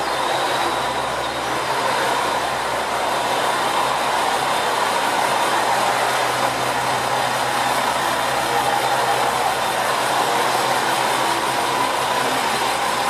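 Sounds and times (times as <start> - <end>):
diesel railcar engine idling: 0.0 - 13.0.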